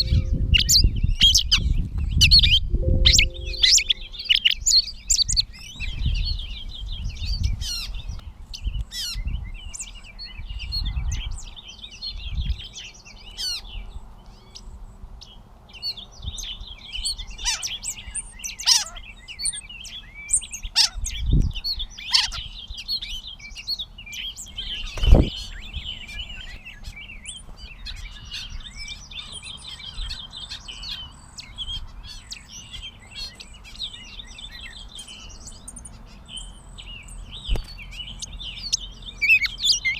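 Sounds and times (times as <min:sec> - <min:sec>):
bird singing jumbled notes: 0:00.0 - 0:39.9.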